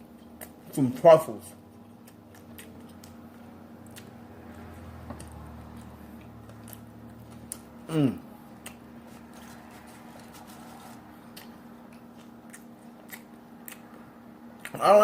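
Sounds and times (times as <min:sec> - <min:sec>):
person chewing: 0:00.0 - 0:00.7, 0:01.6 - 0:14.8.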